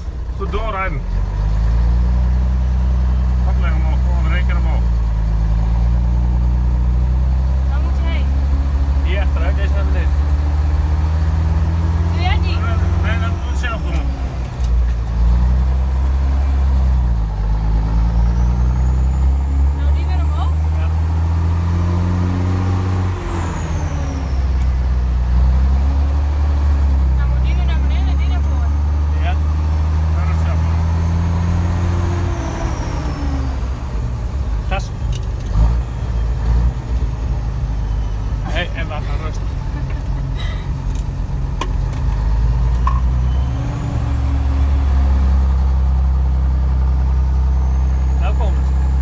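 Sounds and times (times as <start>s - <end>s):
truck diesel engine running: 0.0s - 49.0s.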